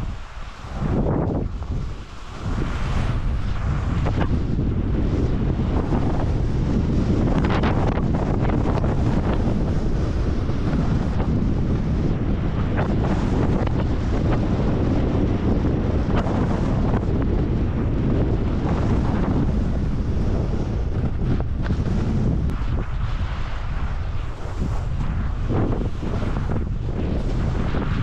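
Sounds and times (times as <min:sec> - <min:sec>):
skis scraping over snow: 0:00.0 - 0:28.0
wind buffeting microphone: 0:00.0 - 0:28.0.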